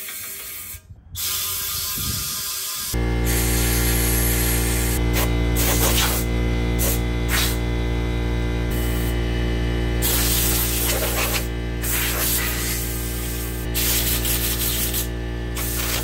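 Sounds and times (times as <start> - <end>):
air blow gun hissing: 0.0 - 7.6, 10.0 - 16.0
steady hum: 2.9 - 16.0.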